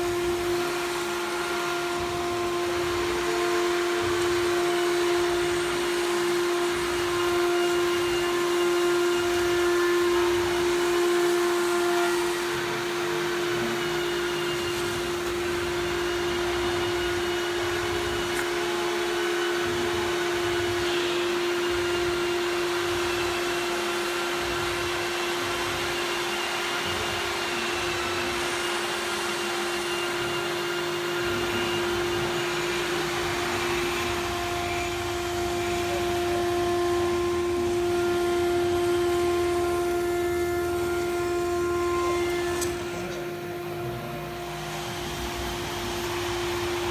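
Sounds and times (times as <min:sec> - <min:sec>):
machine hum: 0:00.0 - 0:46.9
router spindle whine: 0:00.0 - 0:46.9.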